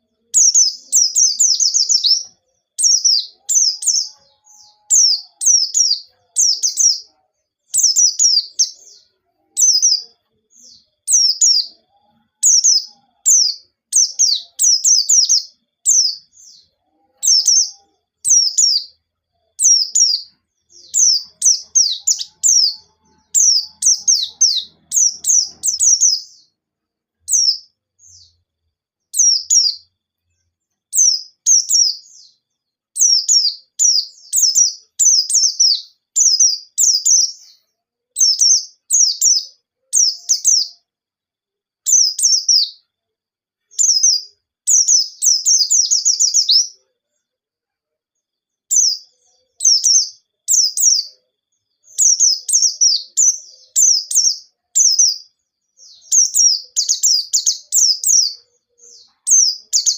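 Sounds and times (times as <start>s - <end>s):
bird singing high chirps: 0.0s - 40.9s, 41.8s - 42.9s, 43.6s - 47.0s, 48.6s - 59.9s.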